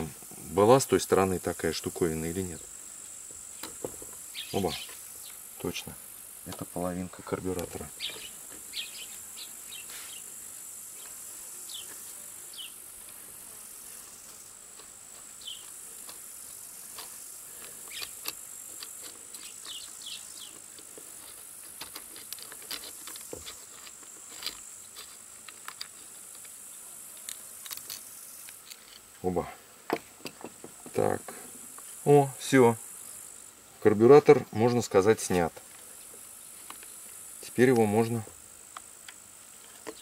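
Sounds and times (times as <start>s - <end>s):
insects chirring: 0.0s - 40.0s.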